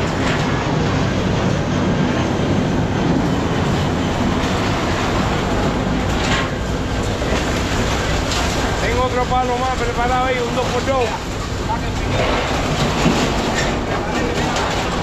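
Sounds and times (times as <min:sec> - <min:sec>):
heavy machinery hydraulic hum: 0:00.0 - 0:15.0.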